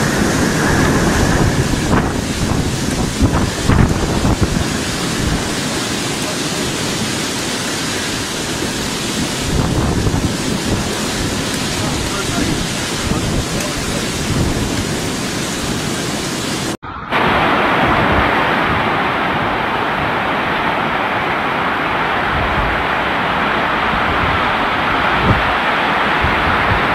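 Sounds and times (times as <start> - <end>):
heavy driving rain: 0.0 - 26.9
strong gusting wind: 0.0 - 26.9
wind buffeting microphone: 0.0 - 26.9.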